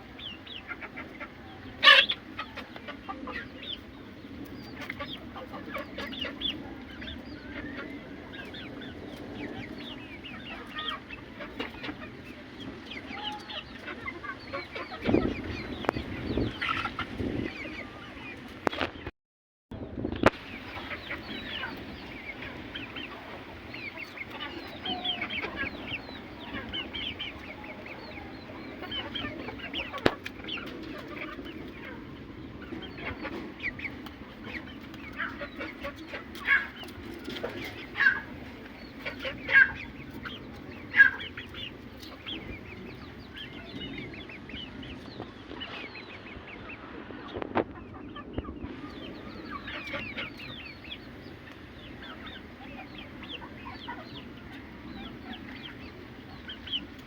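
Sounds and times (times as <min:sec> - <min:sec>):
loud chicken calls: 0:00.0 - 0:18.4, 0:20.3 - 0:57.0
chickens clucking: 0:00.0 - 0:19.1, 0:20.1 - 0:57.0.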